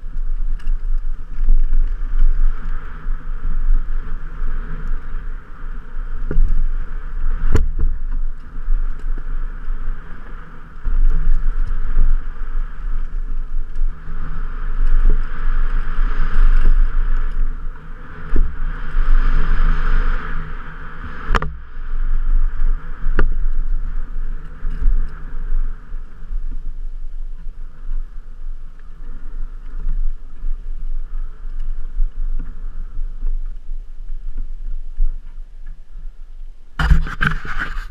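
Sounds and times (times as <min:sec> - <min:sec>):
bike tyres and frame rattling: 0:00.0 - 0:37.9.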